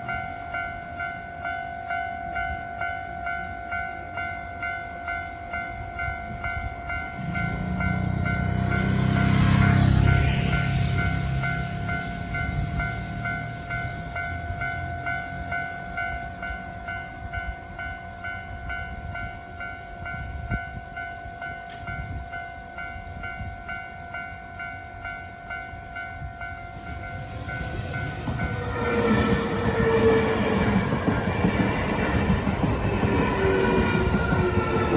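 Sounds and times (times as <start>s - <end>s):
level-crossing bell dinging: 0.0s - 34.9s
train rumble: 0.0s - 34.9s
train wheel noise: 4.9s - 34.9s.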